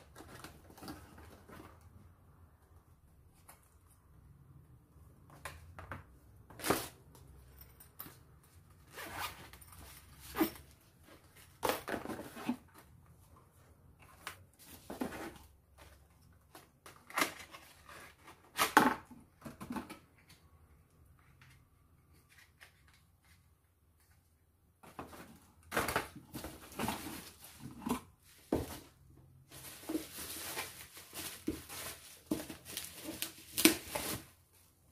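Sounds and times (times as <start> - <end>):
cardboard and plastic packaging rustling: 0.0 - 2.2, 8.0 - 20.4, 21.2 - 34.9.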